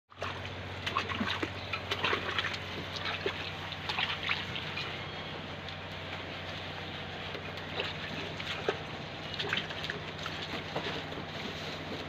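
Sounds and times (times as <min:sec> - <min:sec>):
goats slurping water: 0:00.1 - 0:12.0.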